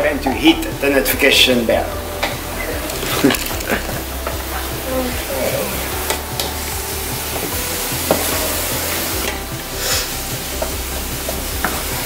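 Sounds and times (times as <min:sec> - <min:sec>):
food sizzling: 0:00.6 - 0:12.0.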